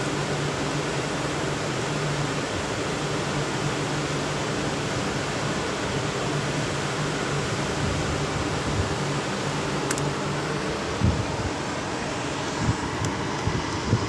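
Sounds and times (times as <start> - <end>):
low machinery hum: 0.0 - 14.0
ventilation droning hiss: 0.0 - 14.0.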